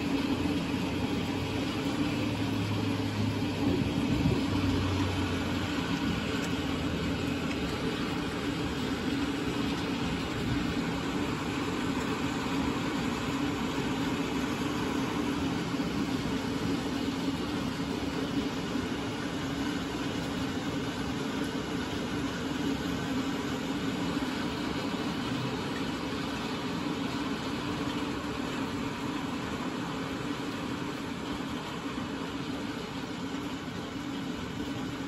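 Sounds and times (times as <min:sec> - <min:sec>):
mechanical hum with hiss: 0:00.0 - 0:35.0.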